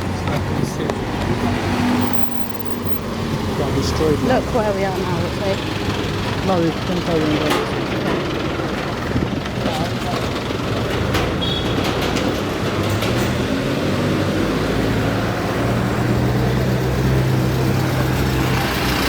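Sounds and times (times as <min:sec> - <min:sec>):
street traffic noise: 0:00.0 - 0:19.0
vehicle engine humming nearby: 0:00.0 - 0:19.0.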